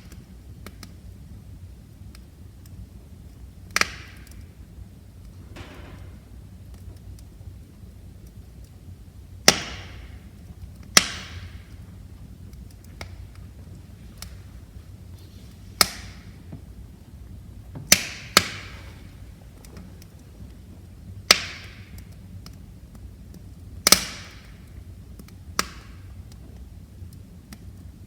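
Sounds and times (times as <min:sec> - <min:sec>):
burning logs popping: 0:00.0 - 0:28.0
low rumble of flames: 0:00.0 - 0:28.0.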